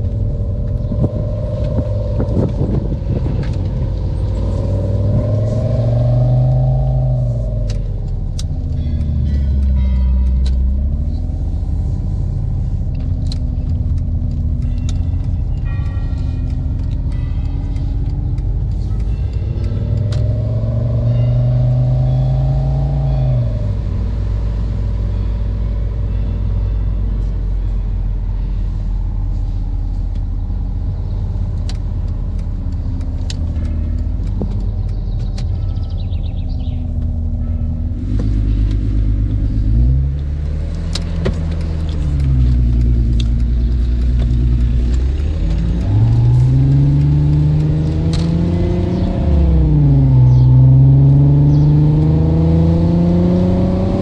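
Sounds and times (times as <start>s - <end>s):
simulated sports car engine: 0.0s - 54.0s.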